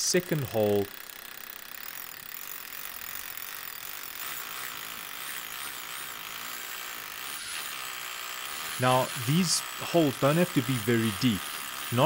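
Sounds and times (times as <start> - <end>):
electric drill boring into brick: 0.0 - 12.0.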